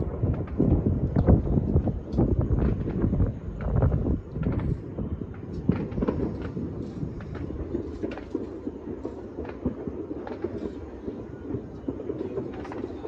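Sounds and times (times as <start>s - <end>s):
distant fireworks popping: 0.0s - 13.0s.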